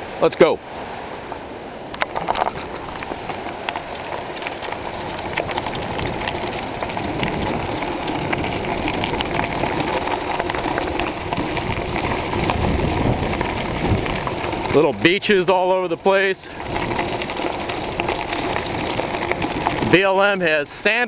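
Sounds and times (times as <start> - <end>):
bike tyres crunching over gravel: 1.3 - 21.0.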